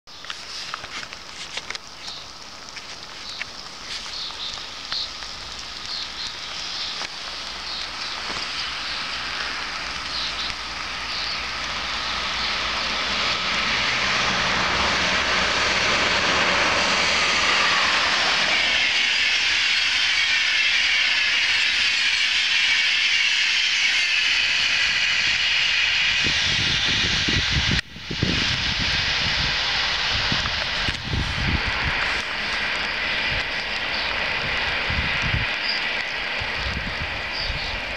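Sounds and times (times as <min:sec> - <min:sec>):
low gusty rumbling of coaches: 0:02.5 - 0:37.9
train passing at speed: 0:03.3 - 0:37.9.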